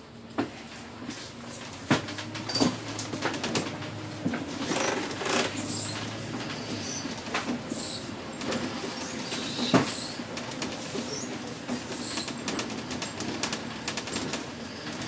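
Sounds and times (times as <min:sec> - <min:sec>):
bus running noise: 0:00.0 - 0:15.0
bus fittings rattling and knocking: 0:01.9 - 0:07.7, 0:08.3 - 0:15.0.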